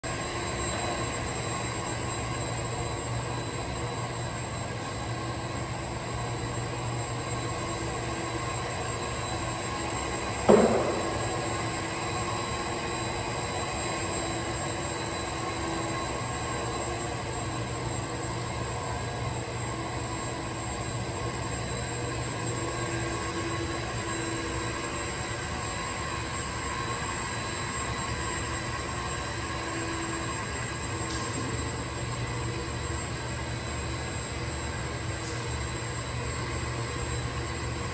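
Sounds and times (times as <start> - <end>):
floor grinding machine running: 0.0 - 37.9
high-pitched whine: 0.0 - 37.9.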